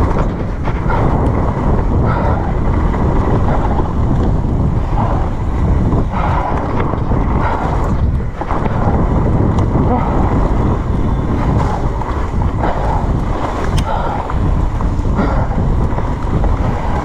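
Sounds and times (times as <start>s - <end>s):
mountain bike rattling on trail: 0.0s - 17.0s
wind buffeting microphone: 0.0s - 17.0s.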